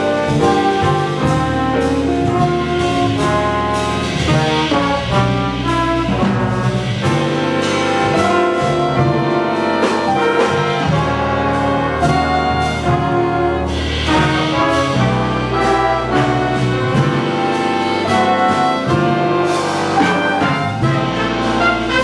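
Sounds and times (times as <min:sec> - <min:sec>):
brass and saxophone chords: 0:00.0 - 0:22.0
cymbal and drum strokes: 0:00.0 - 0:22.0.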